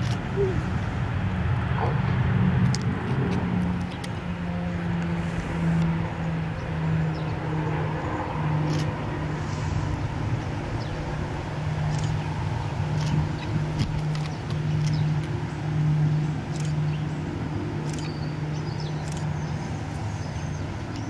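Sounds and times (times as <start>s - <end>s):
distant jet engines rumbling: 0.0s - 21.0s.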